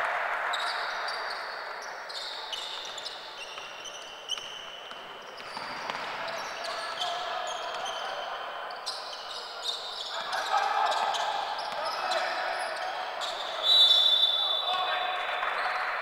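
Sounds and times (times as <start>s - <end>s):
murmur of voices in hall: 0.0s - 16.0s
sneakers squeaking on court: 0.5s - 14.4s.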